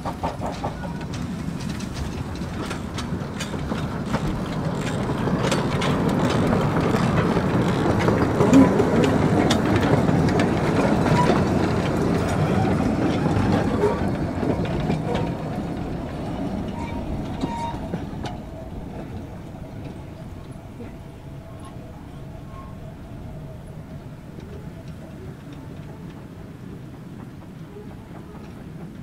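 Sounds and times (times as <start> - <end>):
steam locomotive running past: 0.0 - 29.0
wheels clicking on rails: 0.0 - 29.0.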